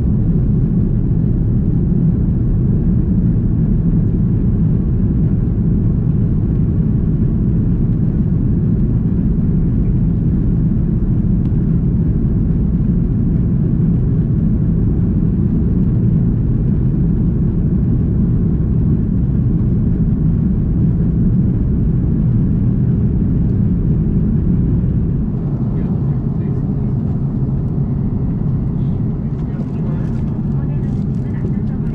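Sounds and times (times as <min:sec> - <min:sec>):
airplane cabin engine rumble: 0:00.0 - 0:31.9.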